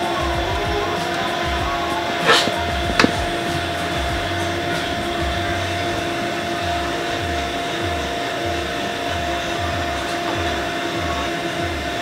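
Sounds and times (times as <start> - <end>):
whirring mechanical hum: 0.0 - 12.0.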